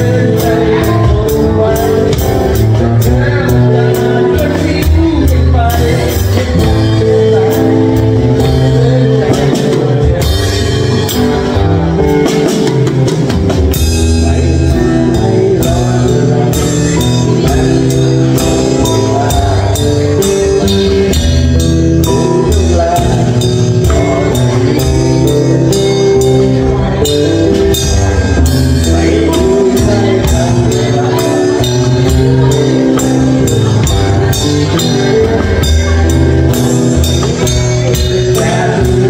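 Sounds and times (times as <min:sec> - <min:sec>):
drum kit beat: 0:00.0 - 0:39.0
live band music: 0:00.0 - 0:39.0.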